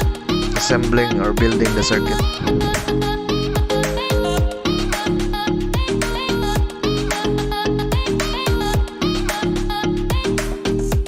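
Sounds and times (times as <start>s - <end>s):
upbeat music with drums: 0.0s - 11.0s.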